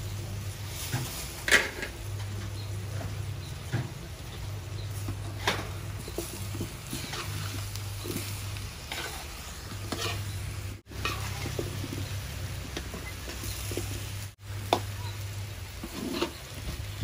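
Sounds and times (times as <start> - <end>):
metal spatula scraping pot: 0.7 - 14.4, 15.1 - 17.0.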